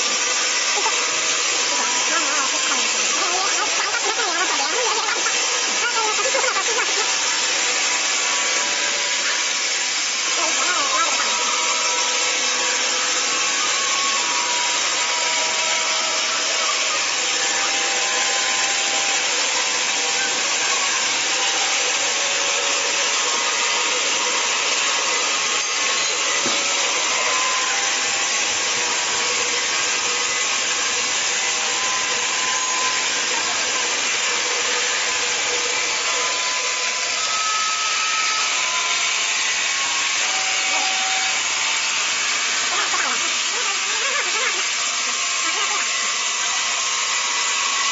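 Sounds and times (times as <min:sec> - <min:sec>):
band saw cutting through log: 0:00.0 - 0:47.9.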